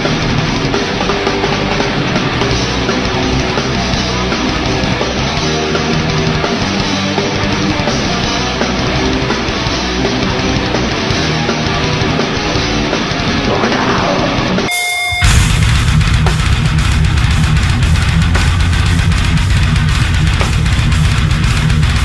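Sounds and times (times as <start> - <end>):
distorted electric guitars: 0.0 - 22.0
drum kit: 0.0 - 22.0.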